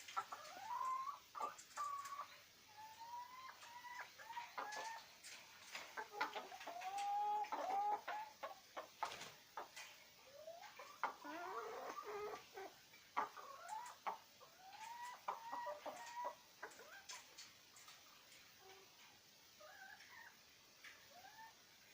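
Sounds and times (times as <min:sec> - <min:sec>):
chickens clucking: 0:00.0 - 0:21.9.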